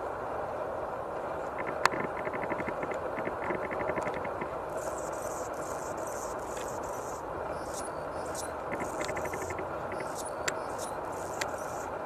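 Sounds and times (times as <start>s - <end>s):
rapid high ticks: 1.5s - 11.9s
high hissy buzzes: 1.5s - 12.0s.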